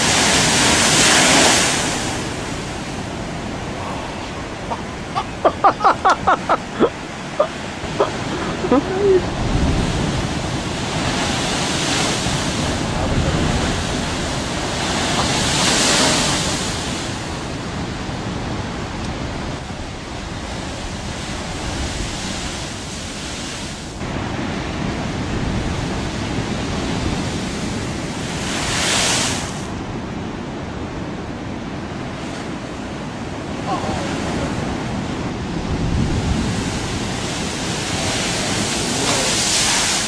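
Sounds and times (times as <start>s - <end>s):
surf breaking on rocks: 0.0s - 19.6s, 20.2s - 29.8s, 33.3s - 40.0s.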